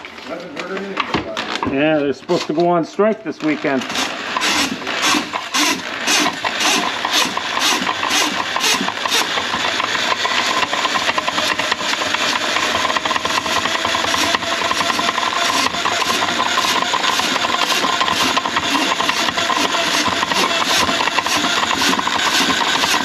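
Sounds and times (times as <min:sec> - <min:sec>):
drain cleaning machine running: 0:03.4 - 0:23.0.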